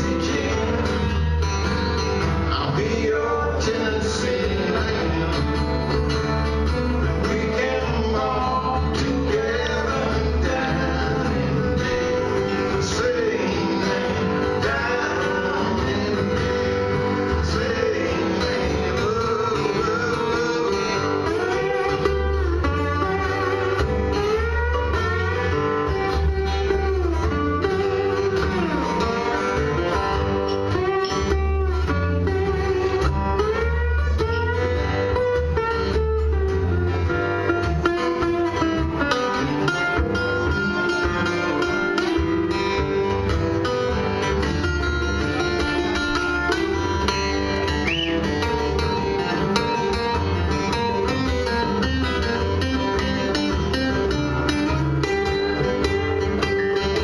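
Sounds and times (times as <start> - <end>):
two acoustic guitars playing: 0.0 - 57.0.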